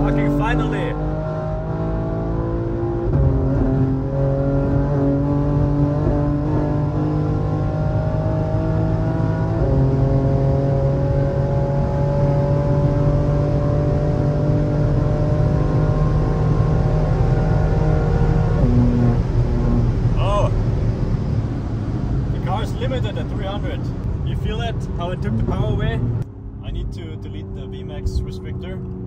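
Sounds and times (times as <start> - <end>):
car engine at full throttle: 0.0 - 29.0.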